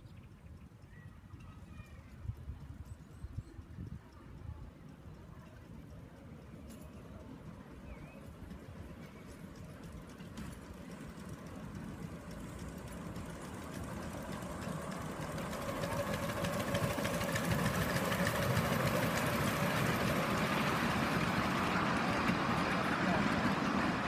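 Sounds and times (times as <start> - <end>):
miniature steam train running: 0.0 - 24.0.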